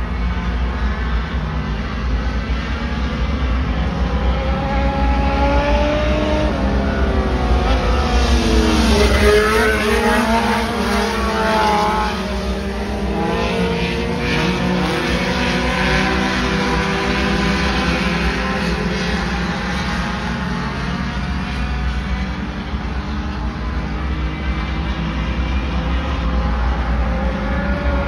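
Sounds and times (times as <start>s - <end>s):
race car engines running hard: 0.0s - 28.0s.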